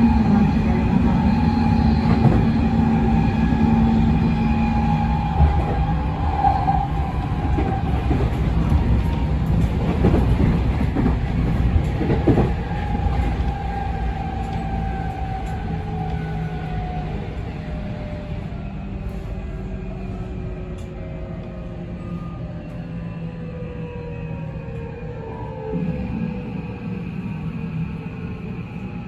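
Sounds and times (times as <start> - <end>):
rumbling train wheels: 0.0 - 29.0.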